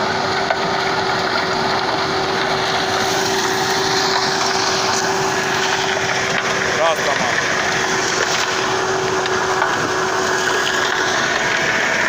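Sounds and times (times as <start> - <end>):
construction machinery engine drone: 0.0 - 12.0.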